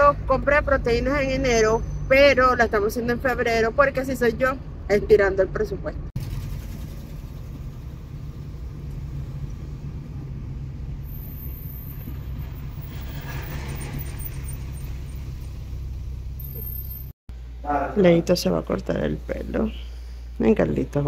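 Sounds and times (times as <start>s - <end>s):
car engine and road noise: 0.0s - 17.6s.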